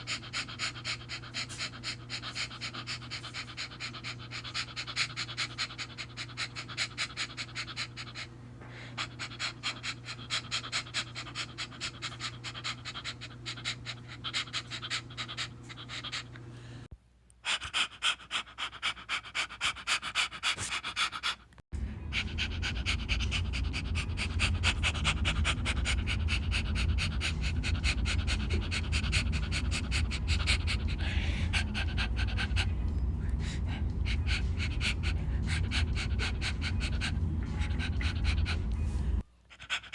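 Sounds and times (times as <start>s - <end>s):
dog panting: 0.0s - 16.4s, 17.4s - 39.9s.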